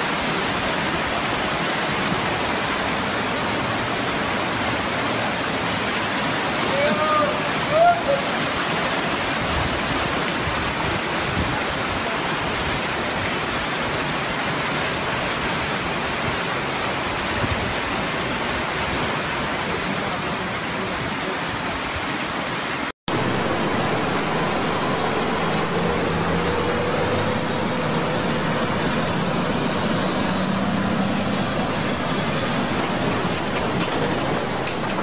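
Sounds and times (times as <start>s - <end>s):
floodwater rushing: 0.0s - 35.0s
truck engine driving through water: 0.0s - 35.0s.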